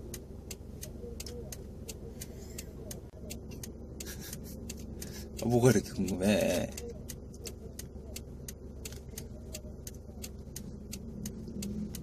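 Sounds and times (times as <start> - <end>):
car engine hum: 0.0 - 12.0
car indicator ticking: 0.0 - 12.0
road noise inside car: 0.0 - 12.0.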